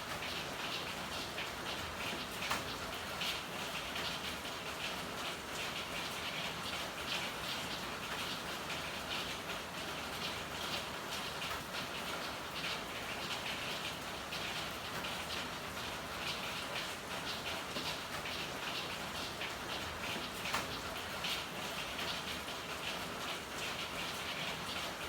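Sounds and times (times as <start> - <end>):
rain drops pattering: 0.0 - 25.0.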